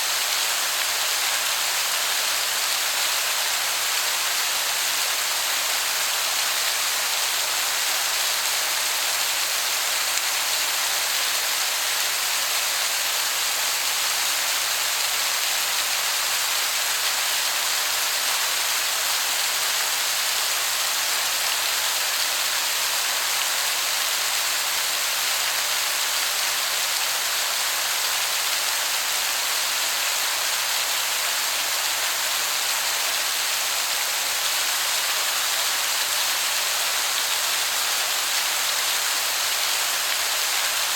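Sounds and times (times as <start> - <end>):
waterfall hissing: 0.0 - 40.9.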